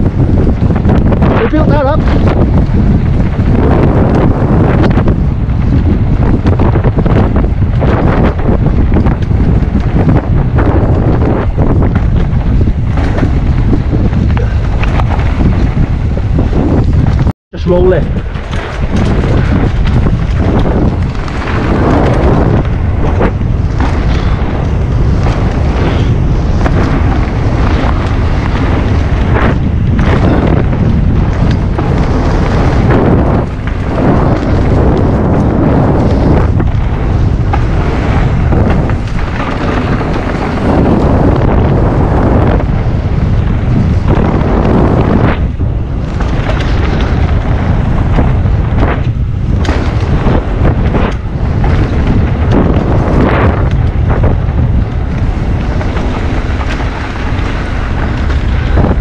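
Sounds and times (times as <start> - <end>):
bike rattling on rough trail: 0.0 - 59.0
wind buffeting microphone: 0.0 - 59.0.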